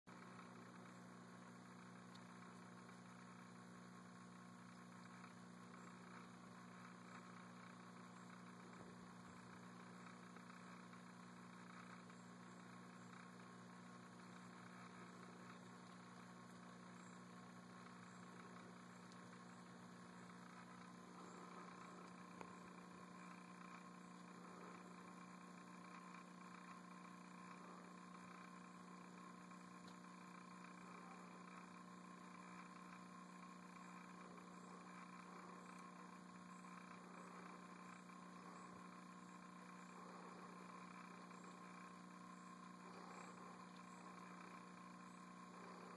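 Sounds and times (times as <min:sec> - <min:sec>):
faint low hum: 0:00.1 - 0:45.9.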